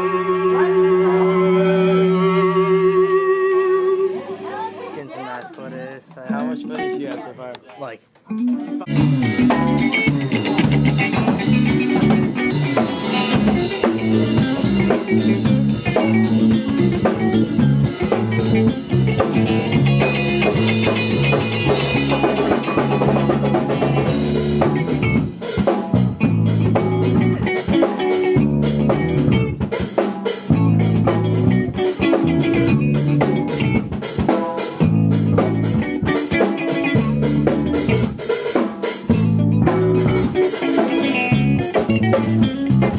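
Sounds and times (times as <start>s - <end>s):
bass guitar: 0.0s - 5.3s, 6.2s - 7.4s, 8.2s - 42.9s
electric guitar: 0.0s - 7.3s, 8.2s - 42.9s
drum kit with rimshots: 6.0s - 42.9s.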